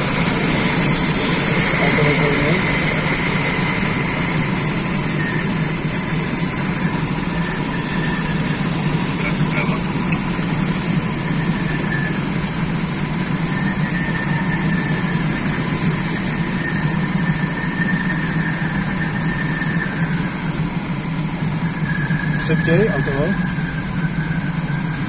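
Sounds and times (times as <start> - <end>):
faint high whistle: 0.0 - 25.0
rushing airflow over glider: 0.0 - 25.0.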